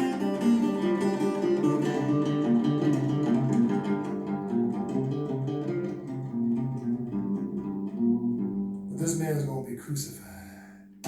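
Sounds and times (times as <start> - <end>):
plucked guitar music: 0.0 - 10.1.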